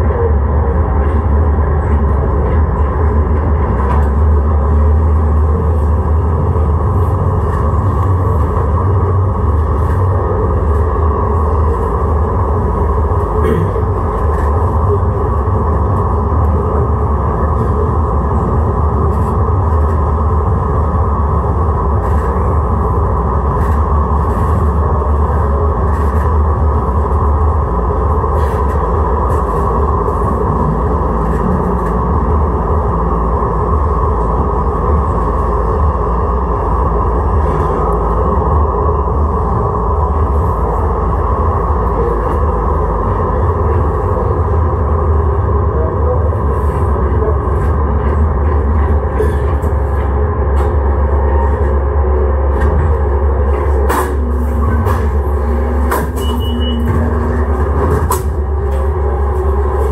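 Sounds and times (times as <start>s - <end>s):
light-rail car humming: 0.0s - 59.9s.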